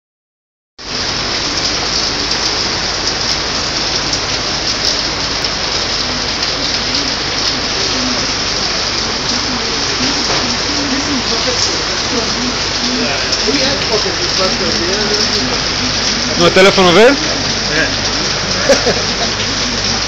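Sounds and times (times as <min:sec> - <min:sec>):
heavy rain on pavement and cars: 0:00.8 - 0:20.0.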